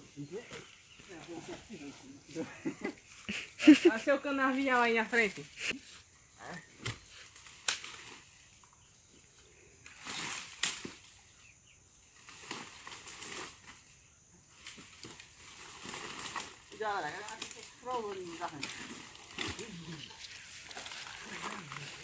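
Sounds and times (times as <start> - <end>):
rustling of firewood and brush: 0.0 - 22.0.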